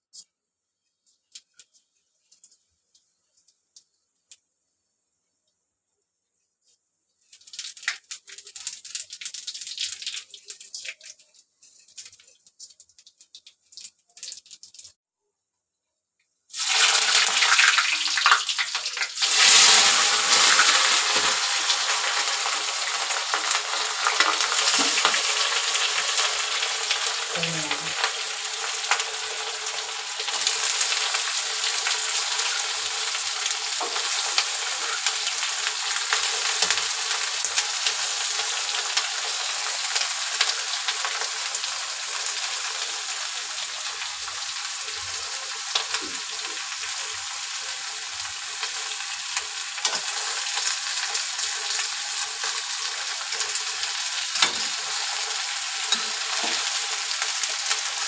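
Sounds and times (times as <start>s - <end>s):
onions sizzling in hot oil: 7.2s - 15.0s, 16.5s - 58.0s.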